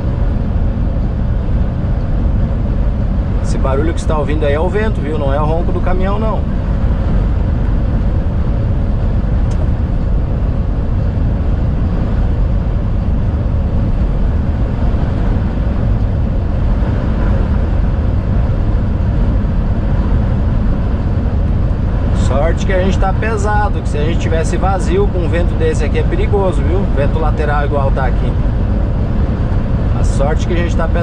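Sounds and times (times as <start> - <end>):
truck road and running noise: 0.0 - 31.0
wind rushing around truck cab: 0.0 - 31.0.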